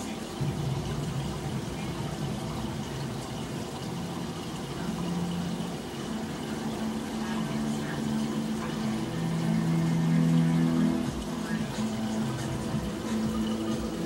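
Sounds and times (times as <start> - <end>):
aquarium filter water rushing: 0.0 - 14.0
low wavering pump hum: 0.0 - 14.0.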